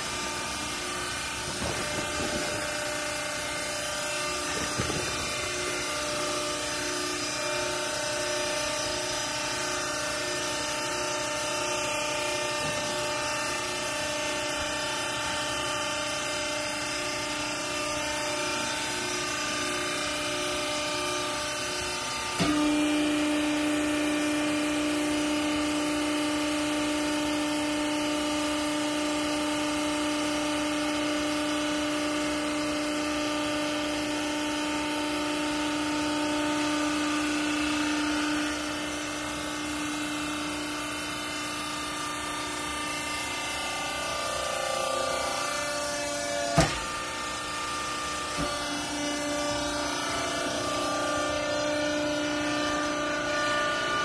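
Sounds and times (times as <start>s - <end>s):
hydraulic pump motor whining: 0.0s - 54.0s.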